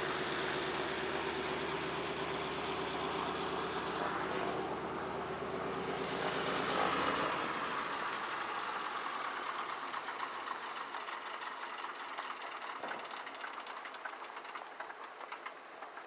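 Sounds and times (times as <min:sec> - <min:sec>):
floatplane engine and propeller: 0:00.0 - 0:16.0.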